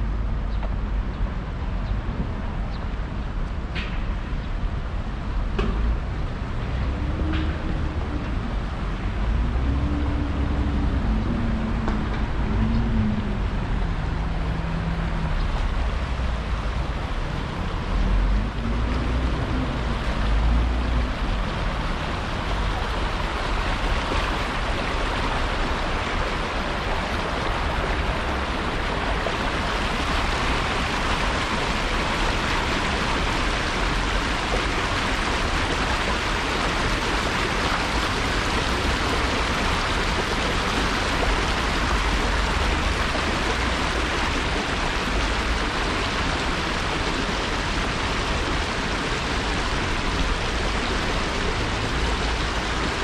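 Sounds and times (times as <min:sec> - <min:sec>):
low traffic rumble: 0:00.0 - 0:53.0
stream water rushing: 0:04.4 - 0:53.0.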